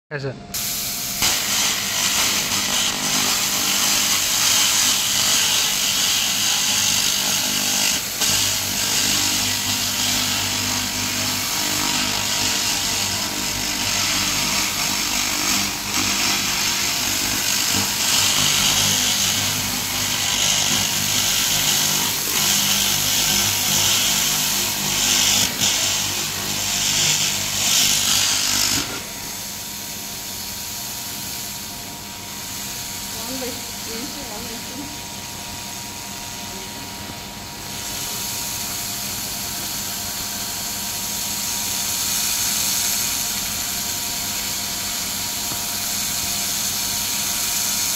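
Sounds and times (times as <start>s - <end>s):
laser crackling hiss: 0.6s - 31.7s, 37.8s - 47.9s.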